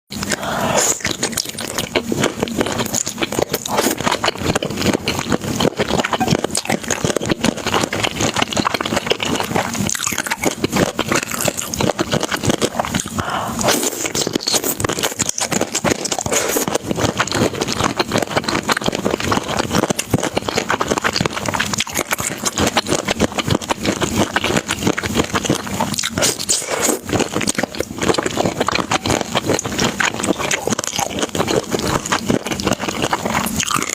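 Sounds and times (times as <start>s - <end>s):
chewing and crunching food: 0.1s - 33.9s.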